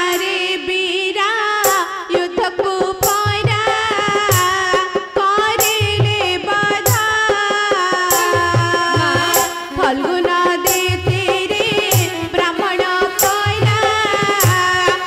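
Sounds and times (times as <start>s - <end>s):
hand-drum strokes: 1.6s - 15.0s.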